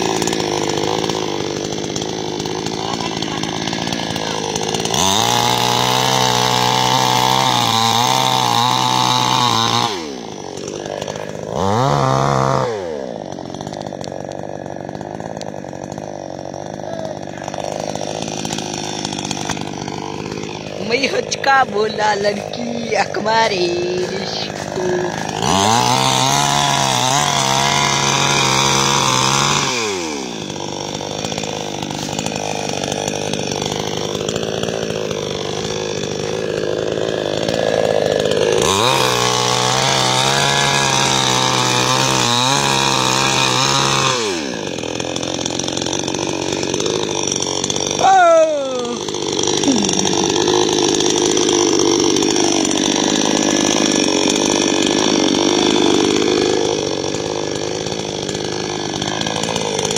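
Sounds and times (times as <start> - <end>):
chainsaw cutting stalks: 0.0 - 59.9.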